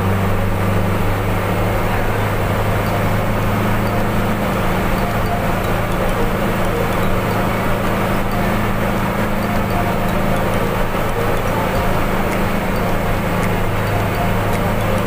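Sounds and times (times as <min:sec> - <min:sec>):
bus engine hum: 0:00.0 - 0:15.0
road noise: 0:00.0 - 0:15.0.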